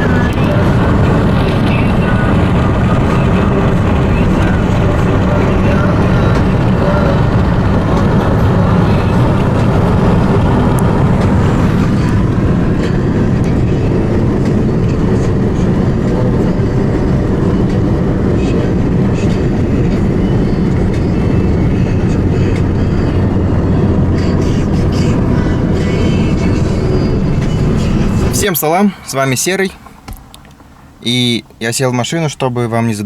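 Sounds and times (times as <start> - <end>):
vehicle interior rumble: 0.0 - 33.0.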